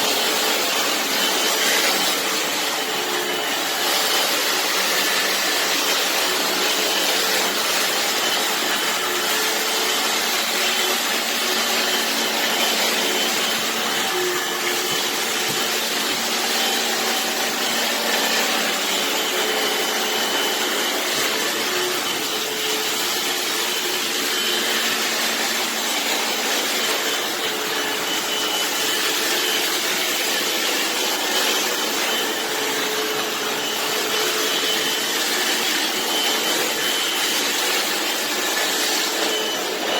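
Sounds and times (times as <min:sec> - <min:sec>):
floor cleaner suction motor: 0:00.0 - 0:39.9.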